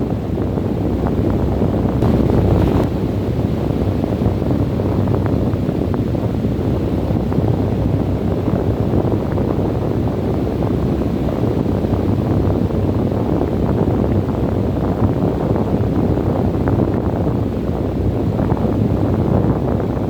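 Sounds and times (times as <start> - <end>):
wind blowing steadily: 0.0 - 20.0.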